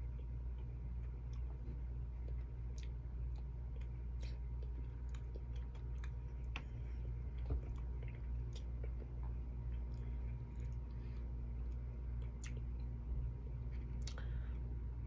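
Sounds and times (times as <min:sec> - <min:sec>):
person chewing food: 0:00.0 - 0:14.7
steady low hum: 0:00.0 - 0:15.0.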